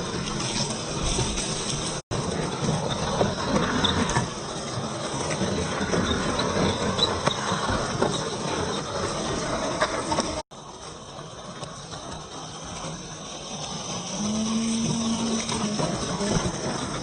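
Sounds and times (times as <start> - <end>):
rc crawler drivetrain grinding: 0.0 - 17.0.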